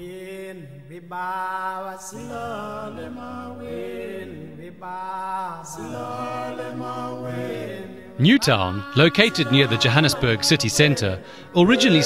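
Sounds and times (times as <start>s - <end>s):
slow chant-like singing: 0.0s - 12.0s.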